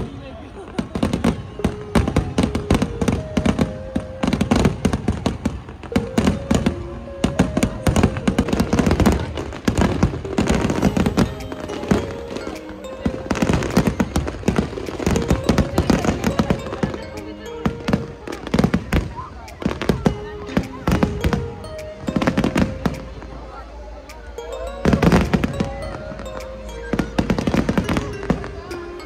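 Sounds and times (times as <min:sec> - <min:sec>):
fireworks bangs and crackles: 0:00.0 - 0:23.4
music playing: 0:00.1 - 0:29.0.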